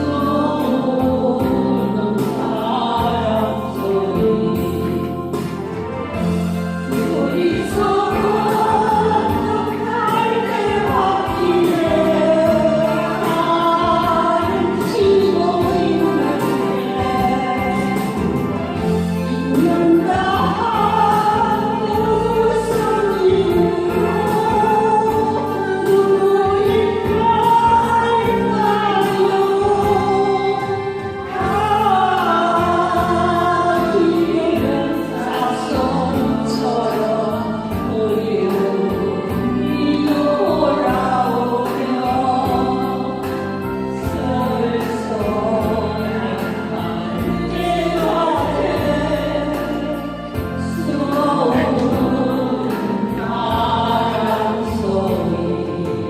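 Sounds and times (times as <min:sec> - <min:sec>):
group singing in unison: 0:00.0 - 0:56.0
instrumental backing track: 0:00.0 - 0:56.0.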